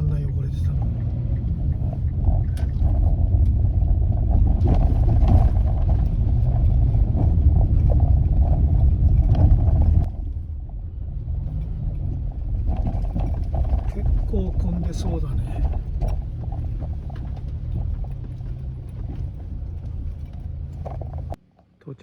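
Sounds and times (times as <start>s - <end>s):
engine and road noise: 0.0s - 21.9s
small knocks and rattles: 0.8s - 10.4s, 11.4s - 21.8s.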